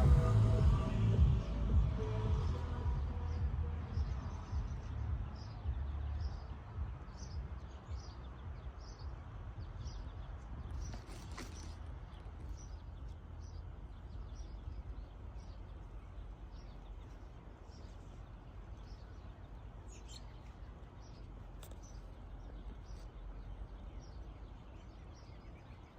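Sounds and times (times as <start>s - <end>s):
steady low rumble: 0.0s - 25.9s
small bird chirping: 1.9s - 25.9s.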